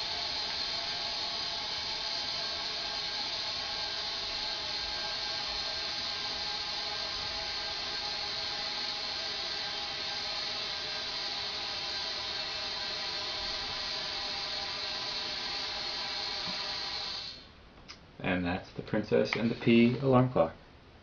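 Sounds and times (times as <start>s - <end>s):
compressed air hissing: 0.0s - 17.6s, 19.1s - 20.2s.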